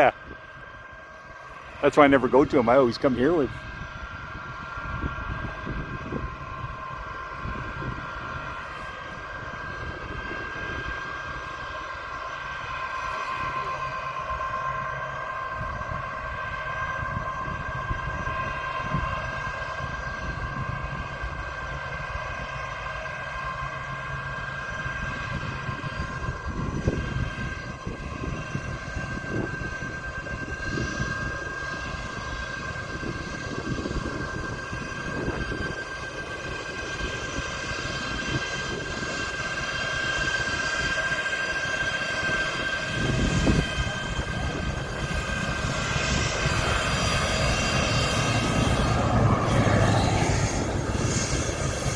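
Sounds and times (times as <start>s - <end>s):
jet engines whining and rumbling: 0.0s - 51.9s.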